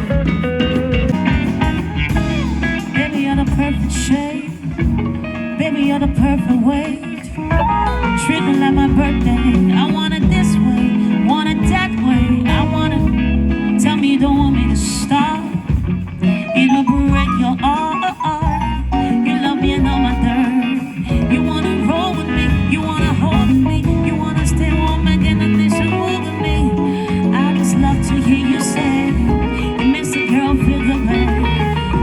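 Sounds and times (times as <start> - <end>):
bass and drums: 0.0 - 32.0
lead guitar with bent notes: 0.0 - 32.0.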